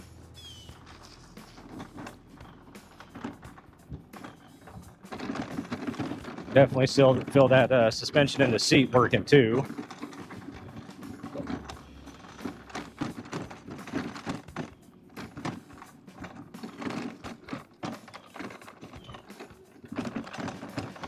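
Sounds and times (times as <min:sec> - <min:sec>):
mobility scooter clattering over bumps: 0:00.0 - 0:21.0.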